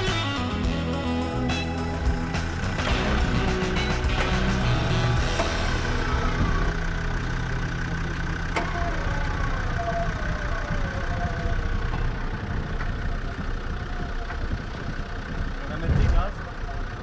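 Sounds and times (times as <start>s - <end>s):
winch whine: 0.0s - 15.6s
truck engine running: 0.0s - 17.0s.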